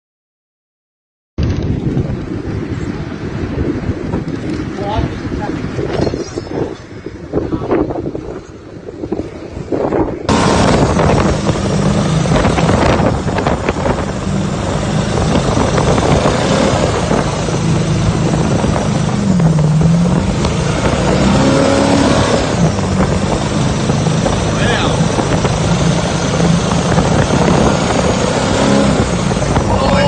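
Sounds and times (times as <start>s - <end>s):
motorboat engine running: 1.4s - 7.2s, 8.0s - 30.0s
wind noise on microphone: 1.4s - 30.0s.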